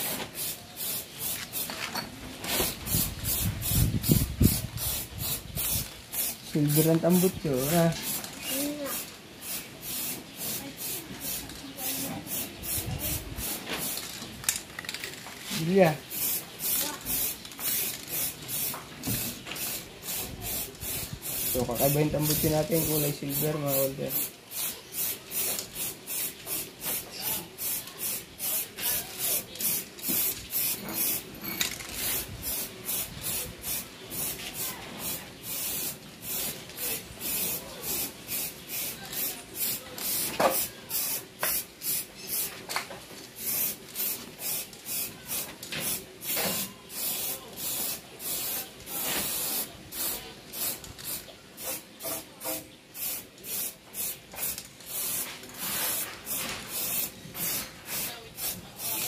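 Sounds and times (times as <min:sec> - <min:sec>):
paint spraying in hissing bursts: 0:00.0 - 0:01.8, 0:02.4 - 0:14.1, 0:15.5 - 0:42.6, 0:43.3 - 0:59.0.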